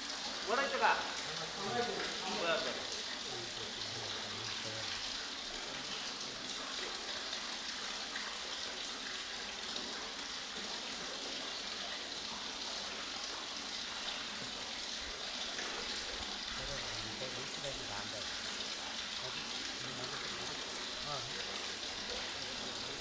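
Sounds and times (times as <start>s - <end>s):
water drops falling into well: 0.0s - 23.0s.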